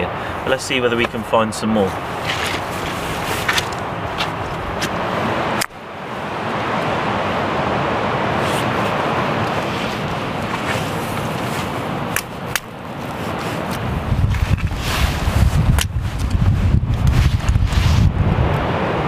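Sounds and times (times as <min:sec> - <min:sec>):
surf rushing: 0:00.0 - 0:19.0
wind on microphone: 0:01.9 - 0:19.0.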